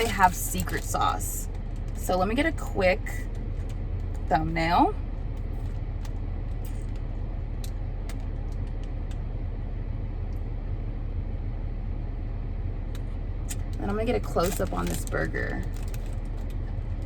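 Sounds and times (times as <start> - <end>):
car air conditioning and idling engine: 0.0 - 17.0.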